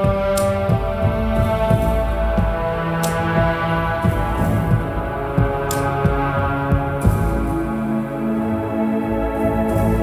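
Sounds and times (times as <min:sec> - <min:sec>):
instrumental music sustained tones: 0:00.0 - 0:10.0.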